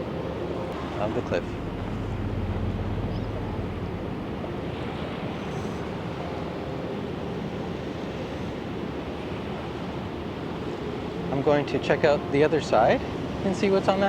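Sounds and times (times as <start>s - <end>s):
wind on microphone: 0.0s - 11.3s.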